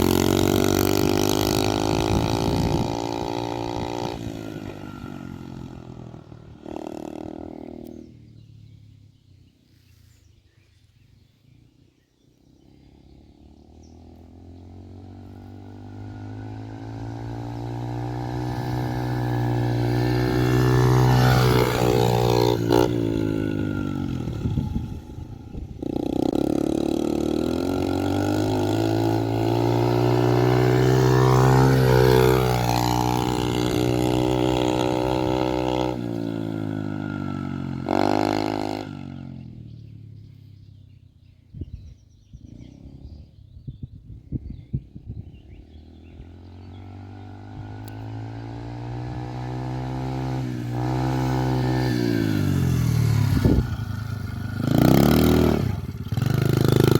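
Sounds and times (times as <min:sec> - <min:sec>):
motorcycle engine revving: 0:00.0 - 0:09.4, 0:12.3 - 0:41.4, 0:42.0 - 0:43.8, 0:45.3 - 0:56.9.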